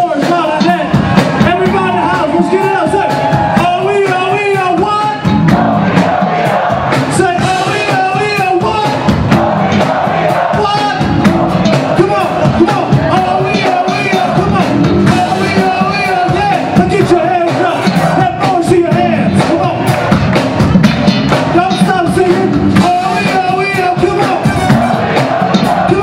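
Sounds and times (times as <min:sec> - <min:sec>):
crowd noise: 0:00.0 - 0:26.0
funk band playing live: 0:00.0 - 0:26.0.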